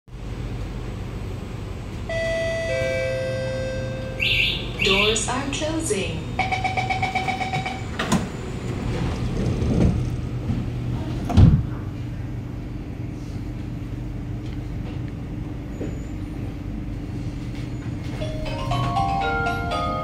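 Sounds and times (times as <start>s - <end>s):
low hum of train equipment: 0.1s - 20.0s.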